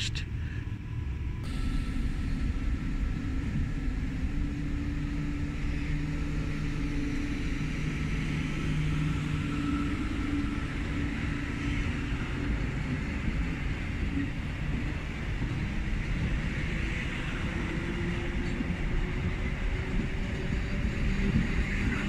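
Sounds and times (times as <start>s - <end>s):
electric train hum and whine: 0.0s - 22.0s
low rumble: 0.0s - 22.0s.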